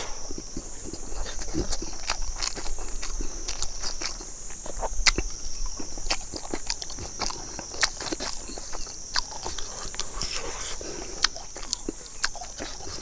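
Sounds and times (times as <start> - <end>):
lip-smacks: 0.0 - 13.0
person chewing food: 0.0 - 13.0
steady high hiss: 0.0 - 13.0.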